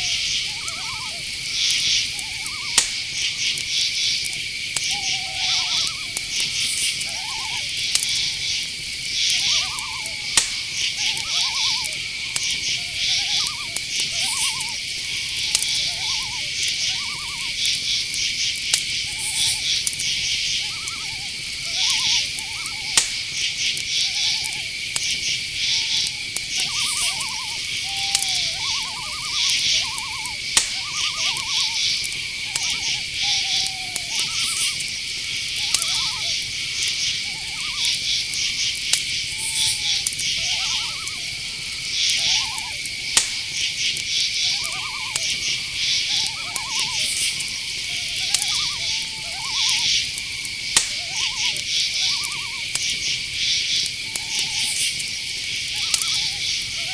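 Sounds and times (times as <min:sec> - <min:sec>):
cricket trills: 0:00.0 - 0:56.9
high-pitched insect drone: 0:00.0 - 0:56.9
short chirping calls: 0:00.0 - 0:56.9
sharp clicks: 0:00.2 - 0:05.0, 0:05.7 - 0:56.9.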